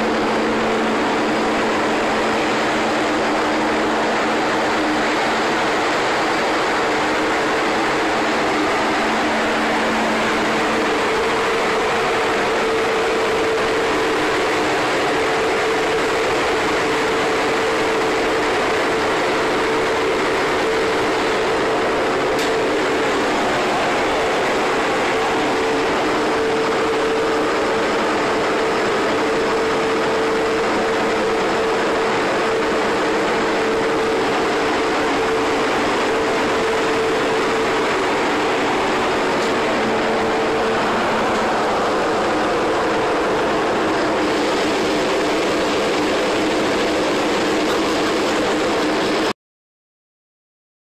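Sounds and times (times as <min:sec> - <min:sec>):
rushing water: 0:00.0 - 0:49.3
engine and machinery drone: 0:00.0 - 0:49.4
steady hum: 0:00.0 - 0:49.4.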